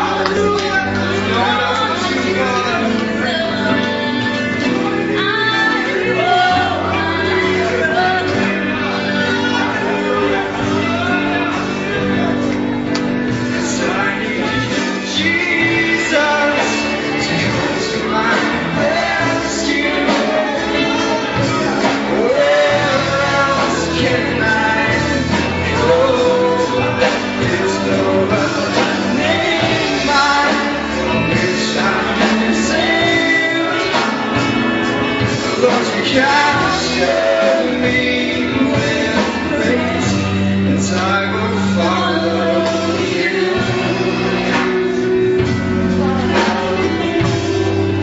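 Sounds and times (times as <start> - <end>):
band playing slow song: 0.0 - 48.0
person singing: 0.0 - 48.0.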